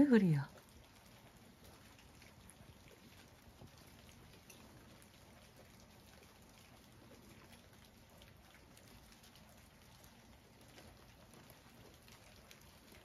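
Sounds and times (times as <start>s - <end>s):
light rain falling: 0.0s - 13.0s
small drip ticks: 0.0s - 13.0s.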